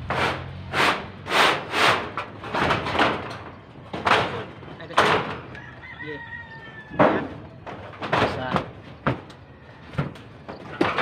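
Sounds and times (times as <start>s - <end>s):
metal roofing sheets clattering: 0.0s - 5.5s, 7.0s - 11.0s.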